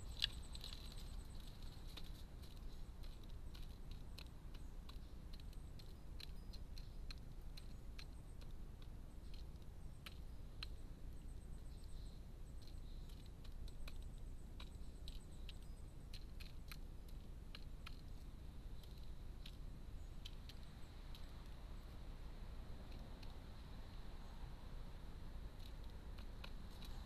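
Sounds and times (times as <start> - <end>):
faint low hum: 0.0 - 27.0
bird bill clicking on tray: 0.1 - 11.3, 12.6 - 21.6, 25.5 - 27.0.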